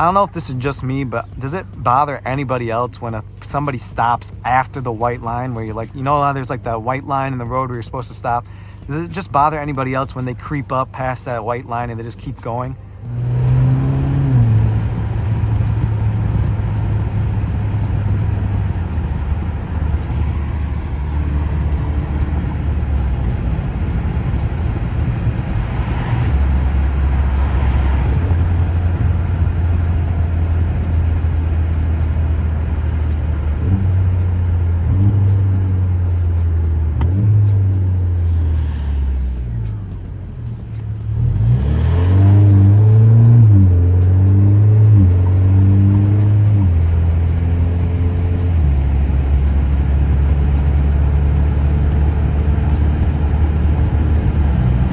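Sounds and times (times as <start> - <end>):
car exhaust drone: 0.0 - 54.9.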